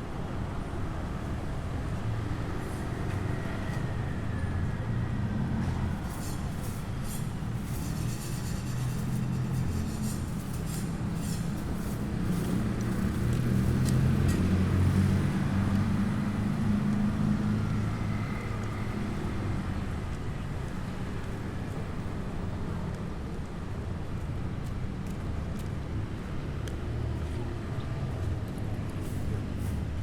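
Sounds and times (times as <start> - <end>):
traffic hum: 0.0 - 30.0
vehicles passing: 0.0 - 30.0.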